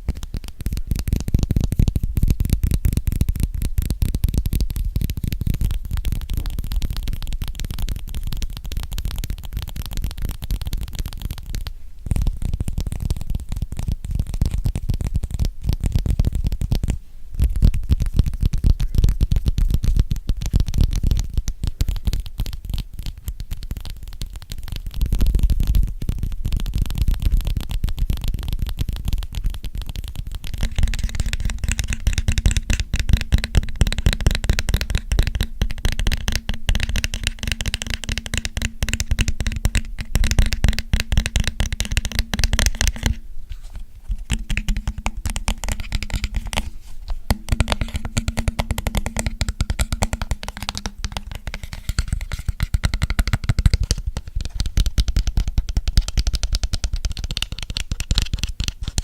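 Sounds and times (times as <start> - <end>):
fingers tapping on object: 0.0 - 25.3, 26.0 - 43.3, 44.0 - 59.0.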